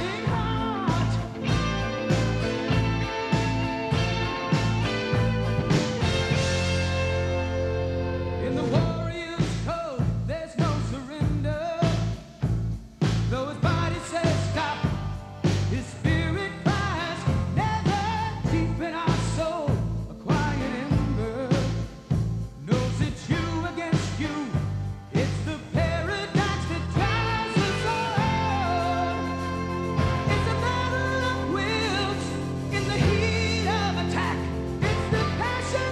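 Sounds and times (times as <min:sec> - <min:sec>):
rock music with singing: 0:00.0 - 0:35.9.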